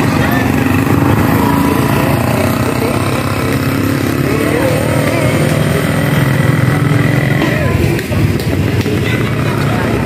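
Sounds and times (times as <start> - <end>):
small motorcycles passing: 0.0 - 10.0.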